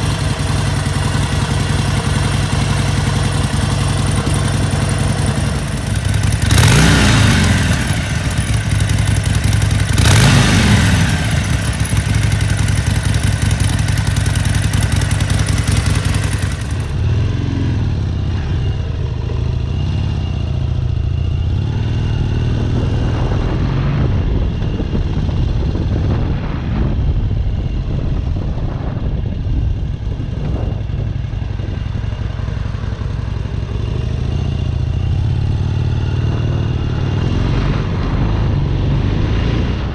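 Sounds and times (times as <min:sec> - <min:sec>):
motorcycle engine revving: 0:00.0 - 0:27.2, 0:29.9 - 0:39.9.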